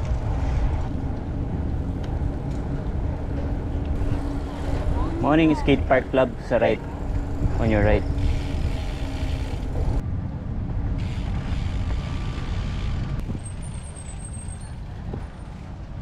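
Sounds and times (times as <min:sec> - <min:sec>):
bicycle tyres rumbling on pavement: 0:00.0 - 0:10.0, 0:10.6 - 0:16.0
wind buffeting microphone: 0:00.0 - 0:16.0.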